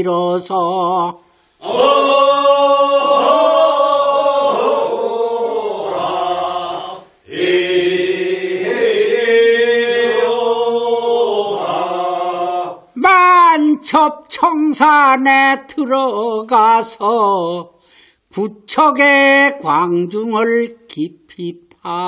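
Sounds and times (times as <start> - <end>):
voices singing folk song: 0.0 - 21.1
single voice singing: 0.0 - 22.0.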